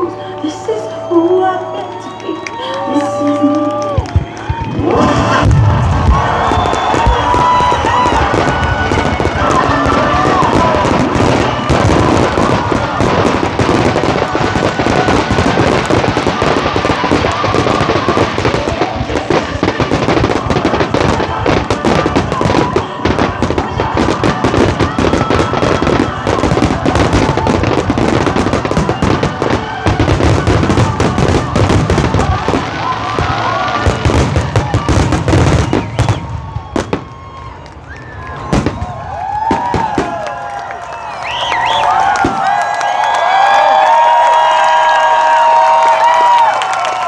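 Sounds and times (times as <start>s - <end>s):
fireworks bangs and crackling: 1.7s - 47.0s.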